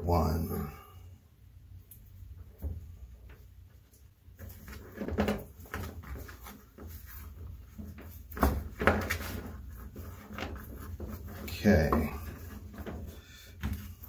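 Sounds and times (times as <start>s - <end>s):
rope rustling: 2.4s - 14.0s.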